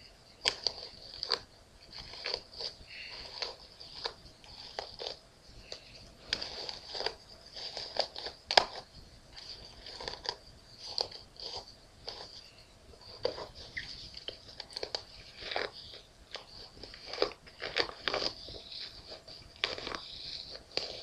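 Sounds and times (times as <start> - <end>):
hairbrush raking through hair: 0.5 - 21.0.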